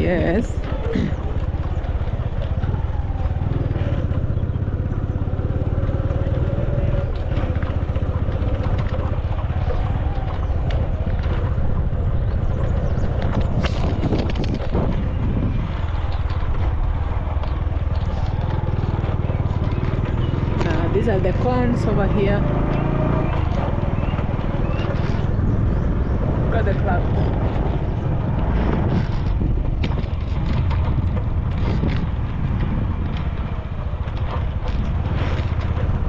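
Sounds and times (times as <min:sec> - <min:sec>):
road noise: 0:00.0 - 0:36.0
vehicle engine rumble: 0:00.0 - 0:36.0.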